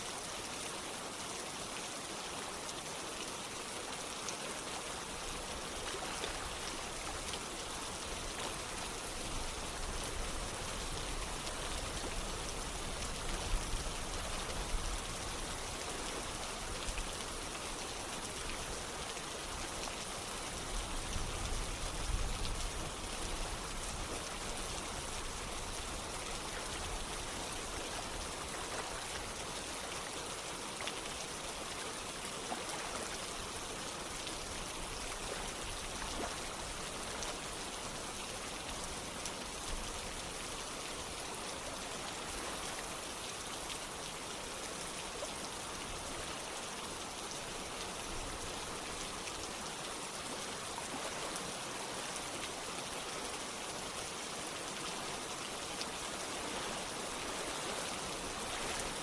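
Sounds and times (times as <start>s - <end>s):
flowing water: 0.0s - 59.0s
steady rain: 0.0s - 59.0s.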